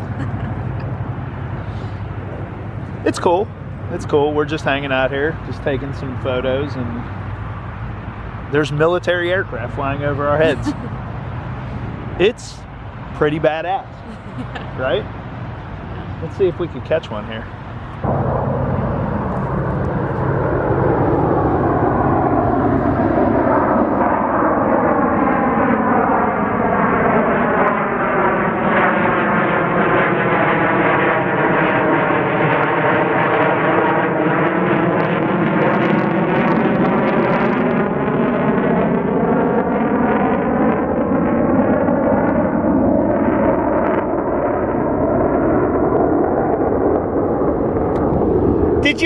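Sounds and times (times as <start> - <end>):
jet engine roar overhead: 0.0 - 49.0.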